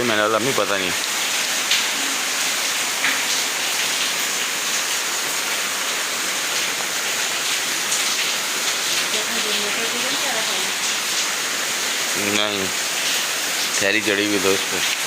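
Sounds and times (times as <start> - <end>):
heavy rain pouring: 0.0 - 15.0
raindrops ticking: 0.1 - 15.0.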